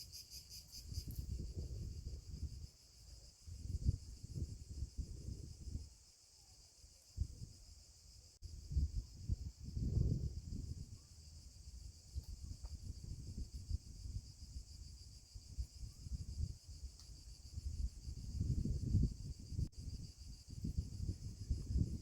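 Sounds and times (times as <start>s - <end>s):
insect chorus shrill hum: 0.0s - 22.0s.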